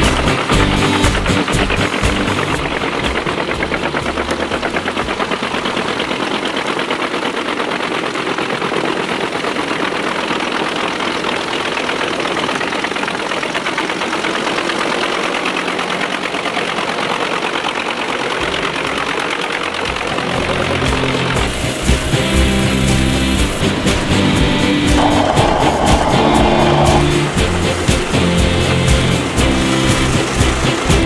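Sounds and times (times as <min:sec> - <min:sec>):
wood chipper chipping logs: 0:00.0 - 0:31.0.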